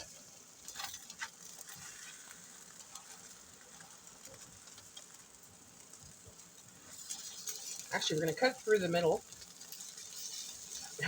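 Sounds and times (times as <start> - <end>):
omelette sizzling in a pan: 0.0 - 11.0.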